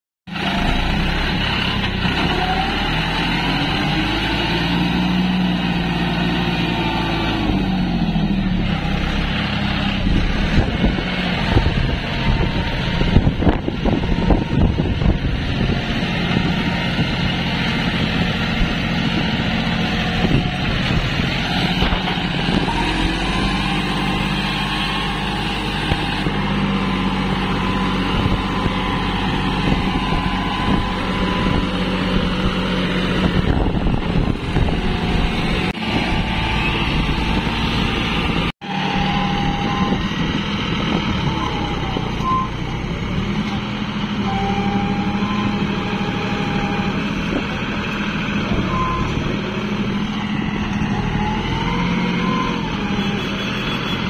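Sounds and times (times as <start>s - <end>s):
tractor engine revving: 0.3s - 54.0s.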